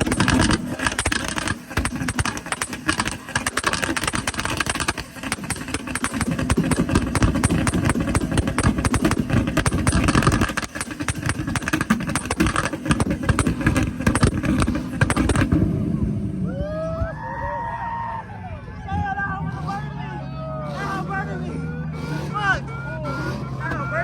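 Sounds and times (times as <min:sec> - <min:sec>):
car engine revving on limiter: 0:00.0 - 0:16.4, 0:18.8 - 0:24.0
exhaust crackling and popping: 0:00.0 - 0:20.0.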